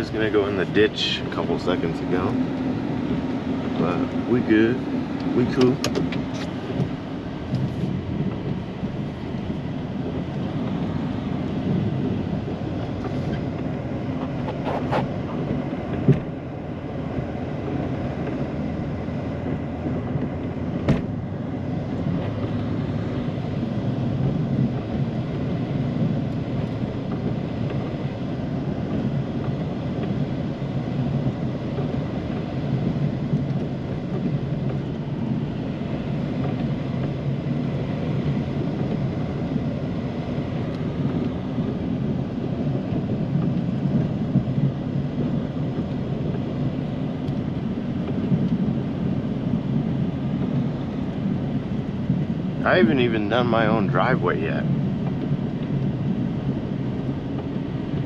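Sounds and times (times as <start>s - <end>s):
snow plow truck running: 0.0s - 58.0s.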